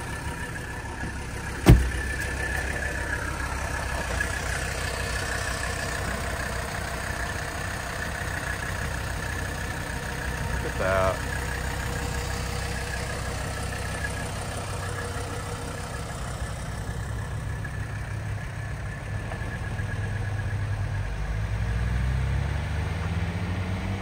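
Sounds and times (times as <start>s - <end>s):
diesel car engine accelerating: 0.0s - 24.0s.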